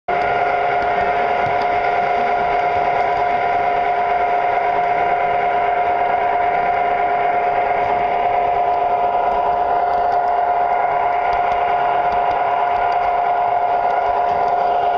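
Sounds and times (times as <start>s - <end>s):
model train motor whine: 0.1s - 14.9s
wheels rolling on rails: 0.1s - 14.9s.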